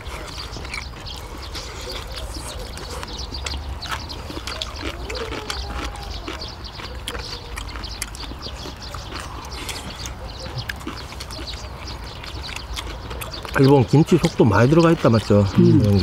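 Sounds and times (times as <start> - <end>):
chewing smacks: 0.0 - 16.0.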